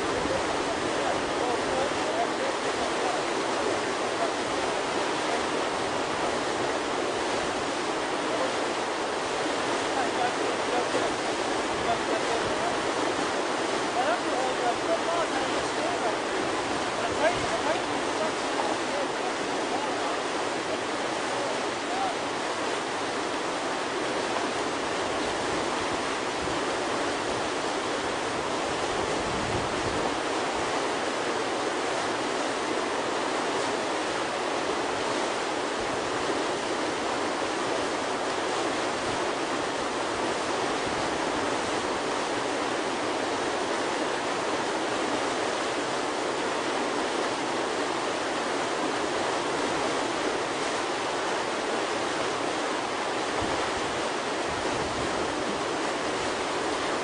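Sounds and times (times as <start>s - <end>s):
whitewater rushing: 0.0s - 57.0s.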